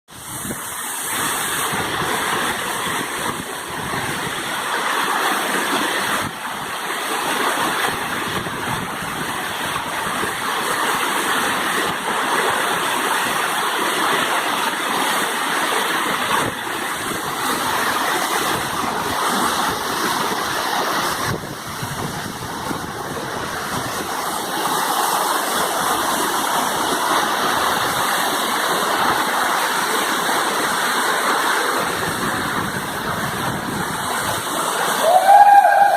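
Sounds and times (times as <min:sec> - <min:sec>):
waterfall rushing: 0:00.1 - 0:35.9.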